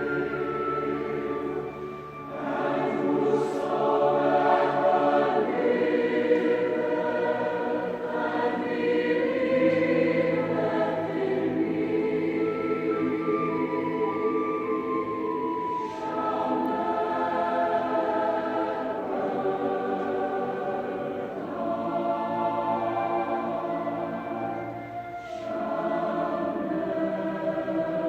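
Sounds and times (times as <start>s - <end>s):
choir singing sustained chords: 0.0s - 28.0s.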